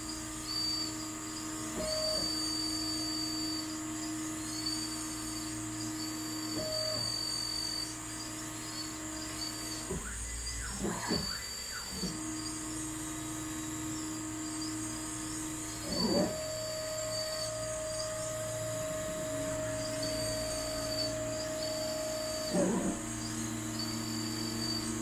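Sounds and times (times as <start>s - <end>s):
servo whirring: 0.0s - 25.0s
steady electric hum: 0.0s - 25.0s.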